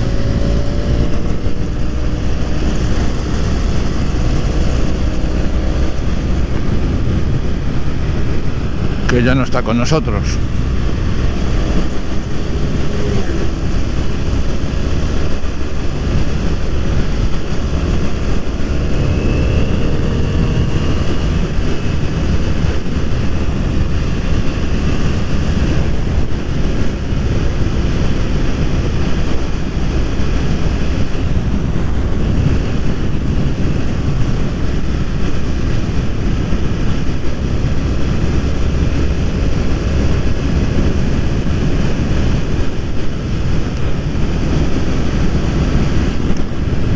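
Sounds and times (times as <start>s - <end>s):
motorcycle engine running: 0.0s - 46.9s
wind rushing over microphone: 0.0s - 46.9s.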